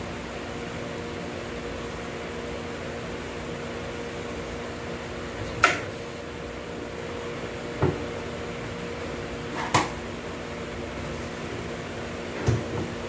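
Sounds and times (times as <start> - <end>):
shop fan humming: 0.0 - 13.0.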